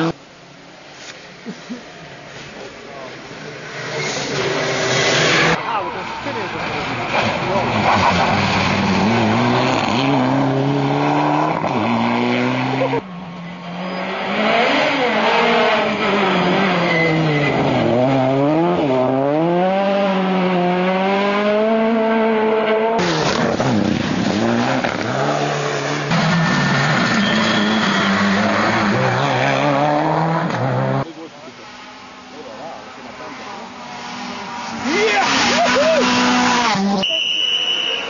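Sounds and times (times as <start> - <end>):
rally car engine with high whine: 0.0 - 38.0
rally car engine revving: 3.2 - 37.2.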